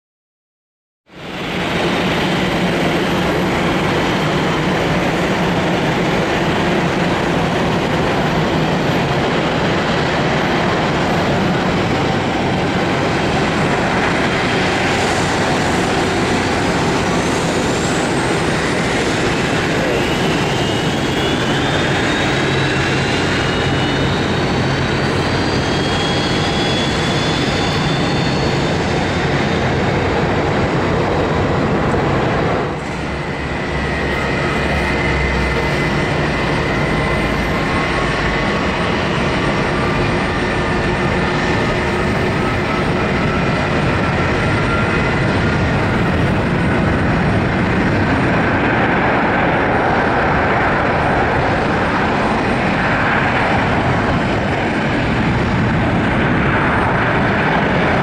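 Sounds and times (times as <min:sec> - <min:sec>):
jet engines taxiing: 0:01.1 - 0:58.0
rising jet engine whine: 0:01.1 - 0:58.0.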